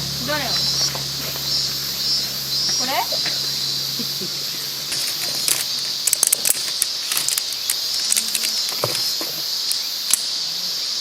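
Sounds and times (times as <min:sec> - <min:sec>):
high-pitched insect drone: 0:00.0 - 0:10.4.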